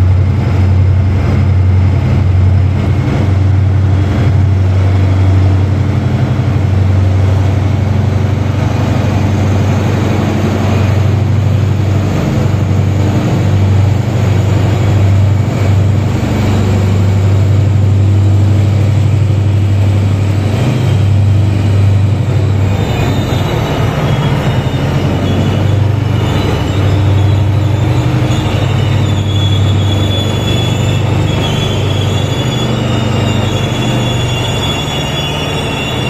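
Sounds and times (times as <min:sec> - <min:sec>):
train rolling slowly: 0:00.0 - 0:36.0
high metallic squeal: 0:06.7 - 0:36.0.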